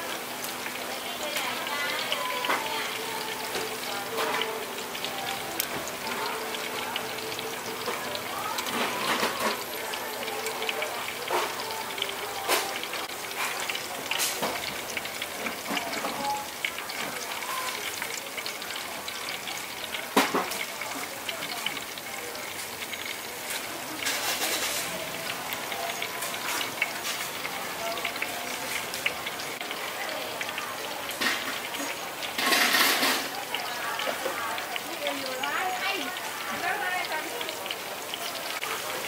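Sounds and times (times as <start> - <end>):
food deep-frying in hot oil: 0.0 - 39.0.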